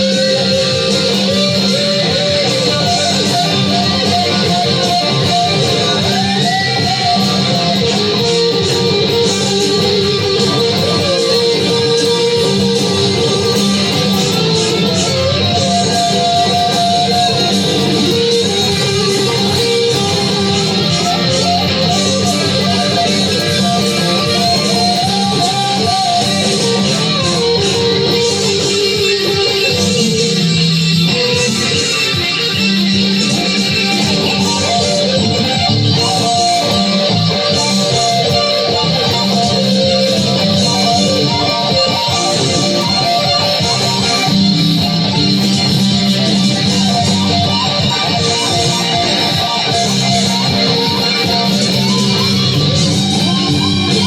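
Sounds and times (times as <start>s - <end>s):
bass guitar: 0.0s - 54.0s
lead guitar solo: 0.0s - 54.0s
rhythm guitar: 0.0s - 54.0s.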